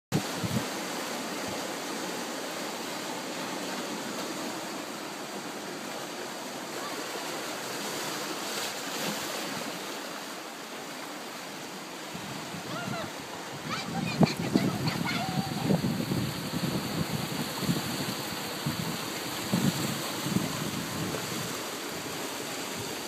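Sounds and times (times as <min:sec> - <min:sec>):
sea surf rushing over rocks: 0:00.1 - 0:23.0.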